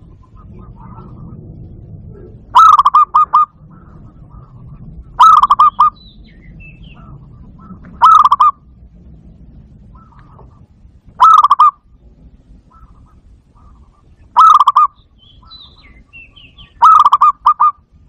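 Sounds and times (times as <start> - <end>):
dove cooing: 0.0 - 8.7, 9.8 - 11.8, 12.6 - 17.8.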